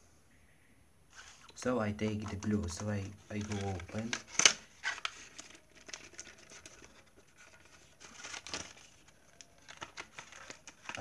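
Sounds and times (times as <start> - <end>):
packaging rustle: 2.1 - 11.0
plastic packaging crinkling: 2.1 - 11.0.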